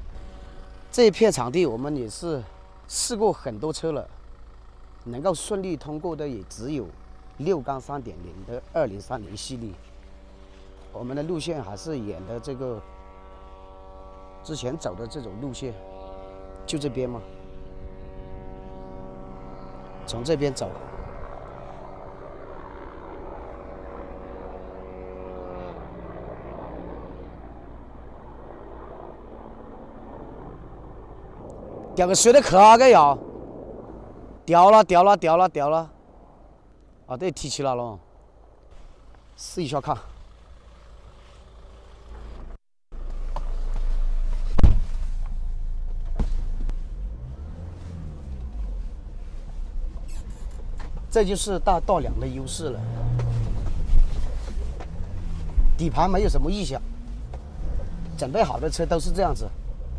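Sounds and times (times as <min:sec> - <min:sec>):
diesel engine at low revs: 0:00.0 - 0:28.4, 0:38.7 - 0:59.9.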